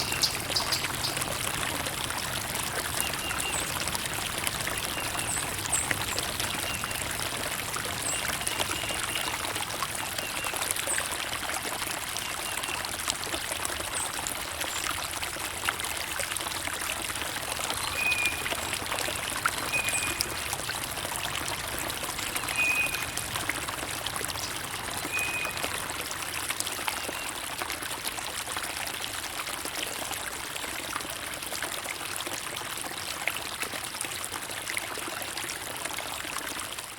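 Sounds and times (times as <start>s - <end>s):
small stream trickling: 0.0s - 36.9s.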